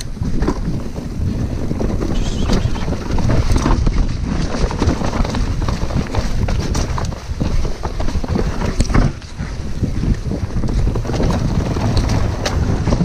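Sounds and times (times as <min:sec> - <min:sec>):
bike rattling and knocking: 0:00.0 - 0:13.0
tyre rumble: 0:00.0 - 0:13.0
wind rushing over microphone: 0:00.0 - 0:13.0.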